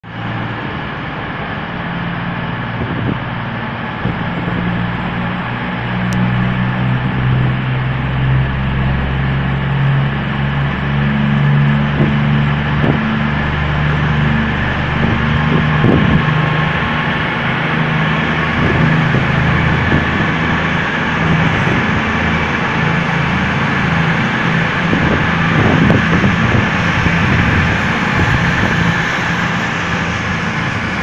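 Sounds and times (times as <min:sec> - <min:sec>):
train diesel engines humming: 0:00.0 - 0:31.0.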